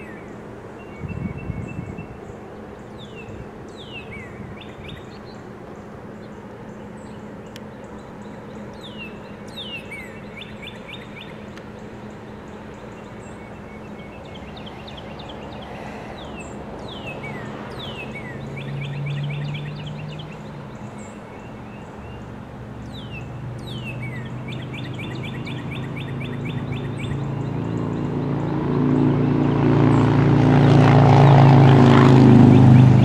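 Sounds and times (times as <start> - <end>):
diesel locomotive engine drone: 0.0 - 33.0
songbirds singing: 0.0 - 33.0.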